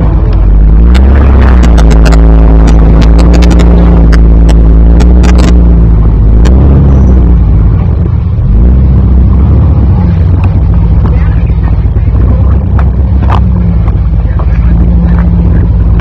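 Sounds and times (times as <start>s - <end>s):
off-road vehicle engine under load: 0.0s - 16.0s.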